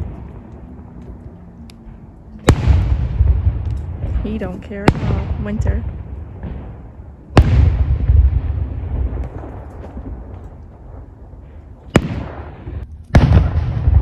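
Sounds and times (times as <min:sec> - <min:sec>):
fireworks booming: 0:00.0 - 0:01.2, 0:01.8 - 0:14.0
firework sharp crack: 0:02.4 - 0:14.0.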